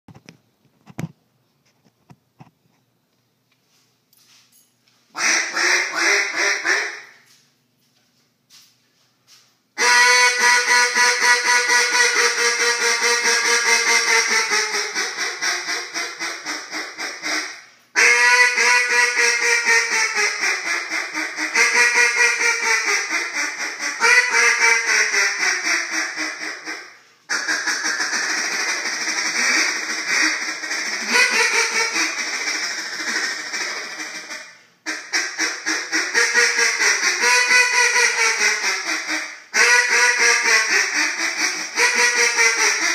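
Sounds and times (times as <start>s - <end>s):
duck call quacking: 5.2s - 7.2s, 9.8s - 42.9s.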